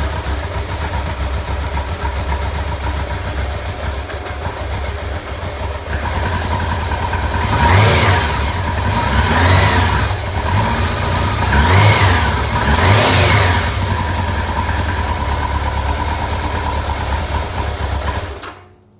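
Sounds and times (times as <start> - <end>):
vehicle engine idling and revving: 0.0 - 18.5.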